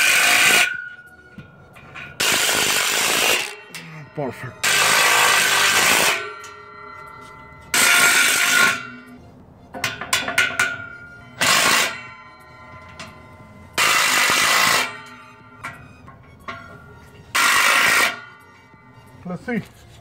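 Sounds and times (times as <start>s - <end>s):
faint background music: 0.0s - 20.0s.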